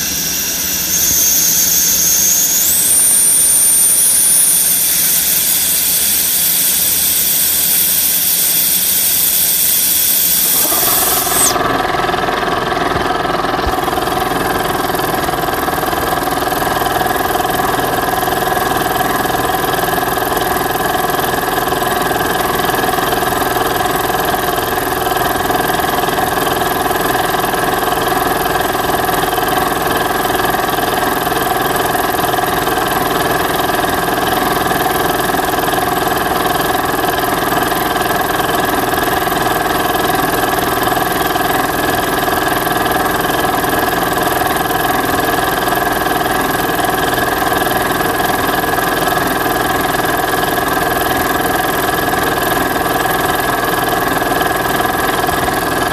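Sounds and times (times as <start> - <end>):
air compressor running: 0.0 - 55.9.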